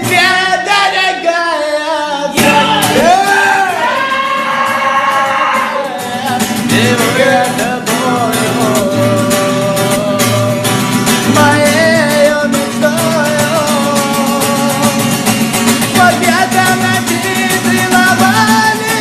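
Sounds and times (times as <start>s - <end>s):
person singing: 0.0s - 19.0s
strummed guitar: 0.0s - 19.0s.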